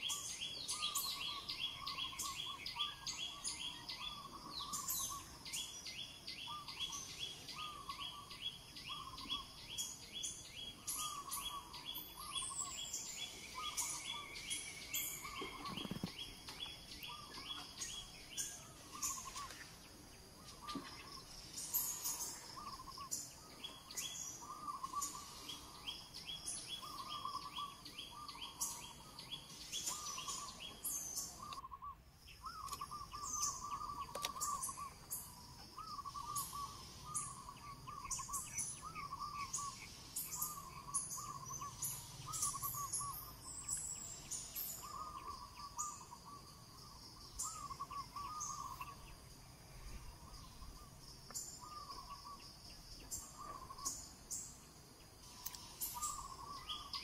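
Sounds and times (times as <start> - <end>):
bird warbling call: 6.4 - 19.7, 20.4 - 49.2, 49.9 - 54.5, 55.2 - 57.0.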